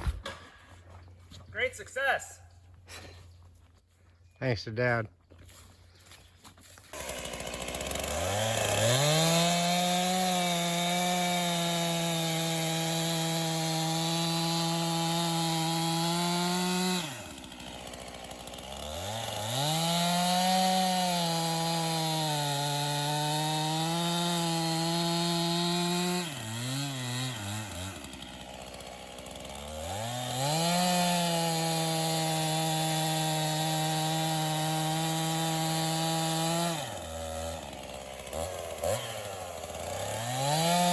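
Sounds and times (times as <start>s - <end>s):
chainsaw cutting wood: 6.6s - 40.9s.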